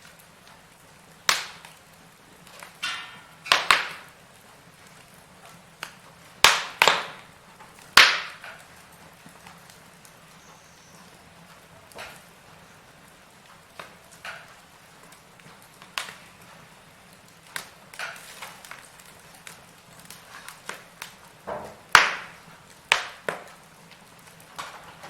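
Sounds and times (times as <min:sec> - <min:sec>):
firewood popping and crackling: 0:00.0 - 0:25.0.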